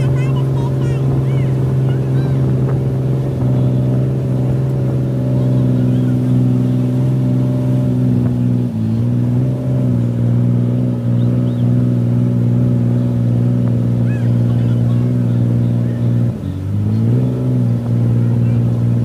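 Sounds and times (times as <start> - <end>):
boat diesel engine running: 0.0 - 19.0.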